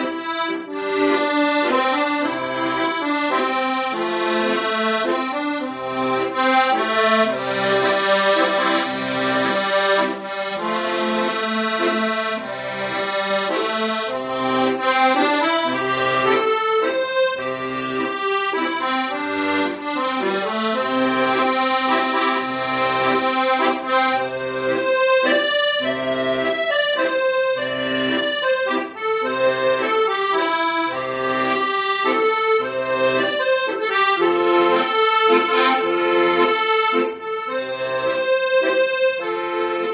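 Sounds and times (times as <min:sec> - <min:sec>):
instrumental music with bass pulse: 0:00.0 - 0:39.9.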